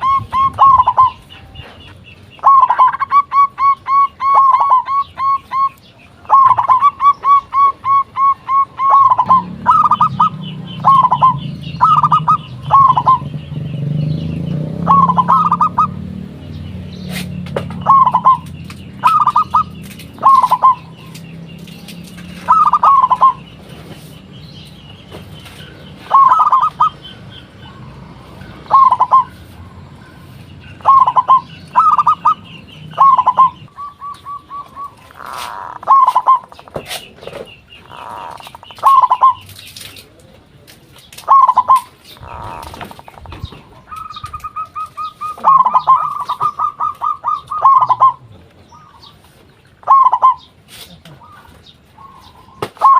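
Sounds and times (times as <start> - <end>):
dove cooing: 0.0 - 16.3, 17.0 - 40.6, 41.2 - 52.9
small birds chirping: 0.0 - 52.9.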